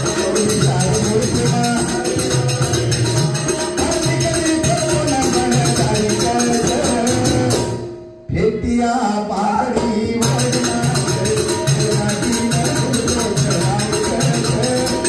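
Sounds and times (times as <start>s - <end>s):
jingling percussion beat: 0.0s - 7.9s, 10.2s - 15.0s.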